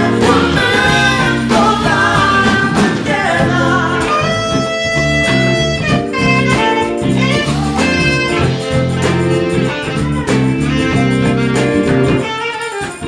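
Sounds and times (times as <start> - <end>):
live band playing soul-jazz: 0.0 - 13.0.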